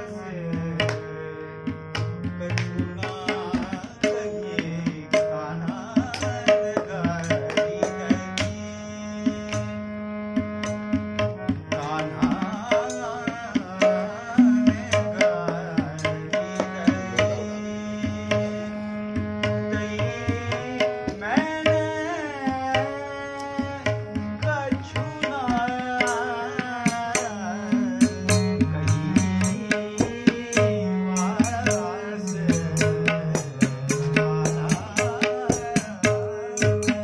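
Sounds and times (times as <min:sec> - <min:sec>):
harmonium: 0:00.0 - 0:37.0
man singing: 0:00.0 - 0:37.0
tabla beat: 0:00.0 - 0:37.0.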